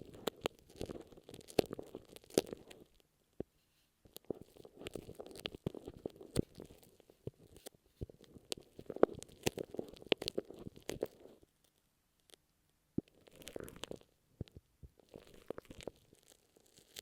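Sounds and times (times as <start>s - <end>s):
glue stick crackling on microphone: 0.0s - 12.4s, 13.0s - 17.0s.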